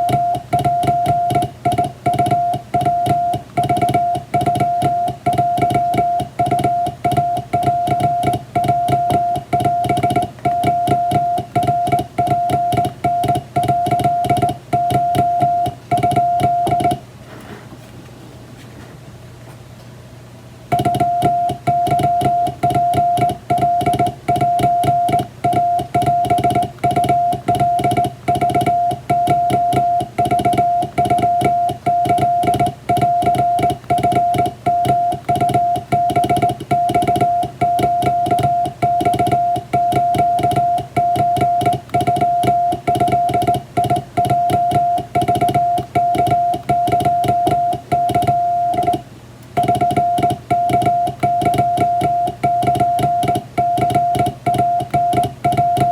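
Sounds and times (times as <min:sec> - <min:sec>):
morse code beeps: 0:00.0 - 0:17.0, 0:20.7 - 0:49.0, 0:49.6 - 0:55.9.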